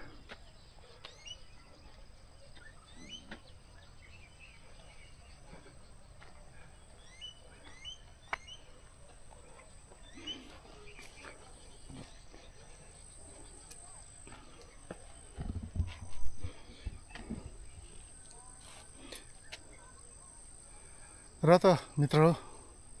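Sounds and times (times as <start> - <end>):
faint bird chirps: 0.0 - 22.4.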